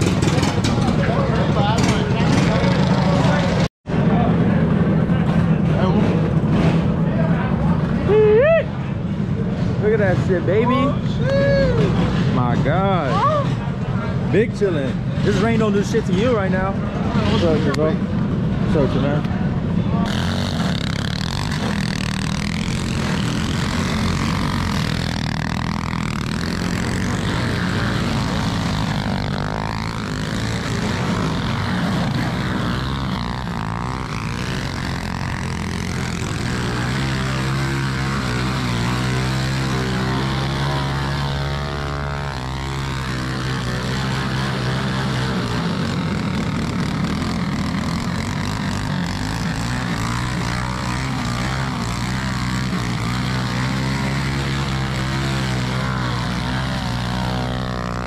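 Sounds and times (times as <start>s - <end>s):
mini bike engines revving: 0.0s - 58.0s.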